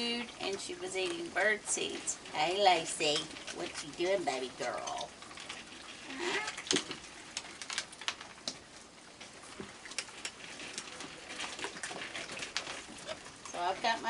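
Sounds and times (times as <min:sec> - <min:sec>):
raccoons chewing and scrabbling: 0:00.0 - 0:14.0.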